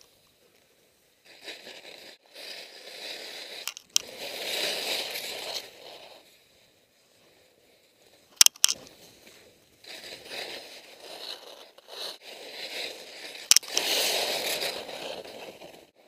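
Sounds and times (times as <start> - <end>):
skis scraping on snow: 0.0 - 16.0.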